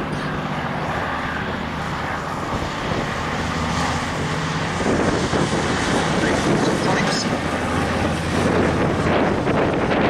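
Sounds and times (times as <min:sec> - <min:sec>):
aircraft radial engines droning: 0:00.0 - 0:10.0.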